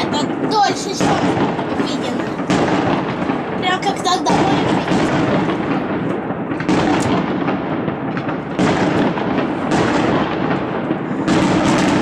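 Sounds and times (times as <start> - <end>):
fireworks rumble and crackle: 0.0 - 12.0
fireworks sharp bangs: 0.0 - 12.0.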